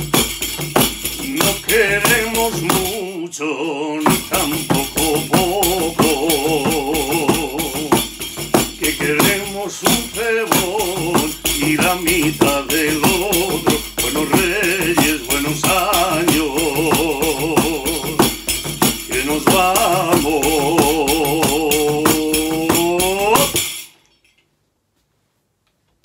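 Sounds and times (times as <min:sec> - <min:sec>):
frame drum with jingles: 0:00.0 - 0:03.2, 0:04.0 - 0:24.4
man singing: 0:01.1 - 0:23.9.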